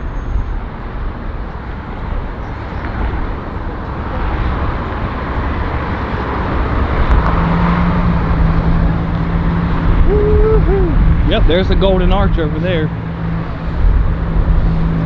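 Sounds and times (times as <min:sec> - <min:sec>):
road traffic passing: 0:00.0 - 0:15.0
wind buffeting microphone: 0:00.0 - 0:15.0.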